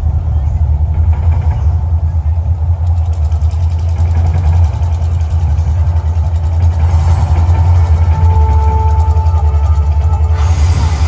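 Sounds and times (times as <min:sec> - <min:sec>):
deep eruption rumble over loudspeakers: 0:00.0 - 0:11.0.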